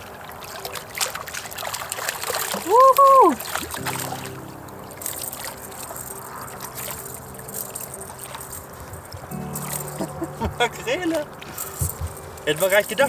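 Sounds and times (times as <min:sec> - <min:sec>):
water splashing against rocks: 0:00.0 - 0:13.0.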